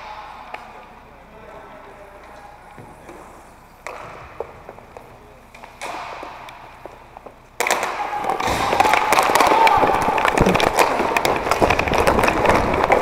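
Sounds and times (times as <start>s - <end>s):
clicks of sticks and skate wheels: 0.0s - 1.0s, 1.8s - 13.0s.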